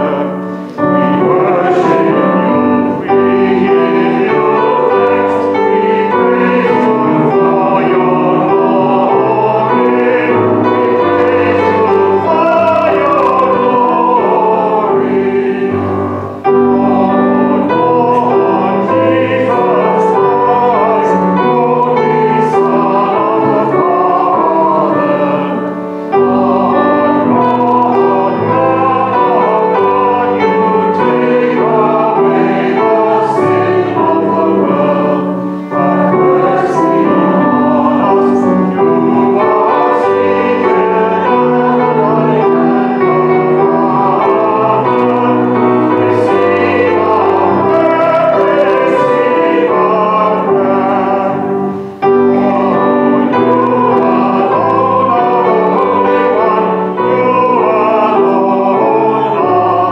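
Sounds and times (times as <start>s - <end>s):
choir singing sacred song: 0.0s - 59.9s
keyboard accompaniment: 0.0s - 59.9s.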